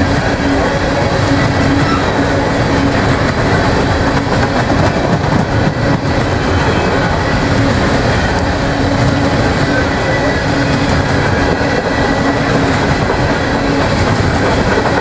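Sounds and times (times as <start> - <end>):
rail clicks: 0.0 - 15.0
train wheels rolling on rails: 0.0 - 15.0.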